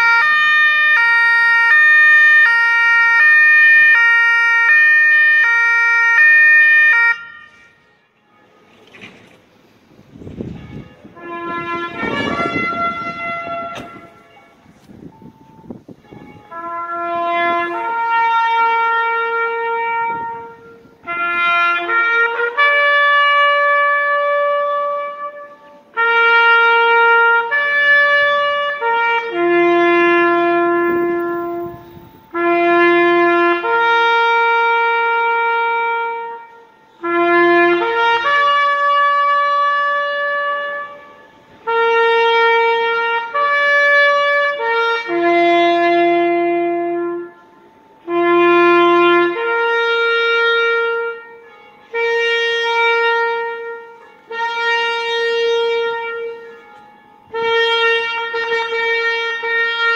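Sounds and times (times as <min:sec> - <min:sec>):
solo trumpet call: 0:00.0 - 0:09.2, 0:10.0 - 0:59.9.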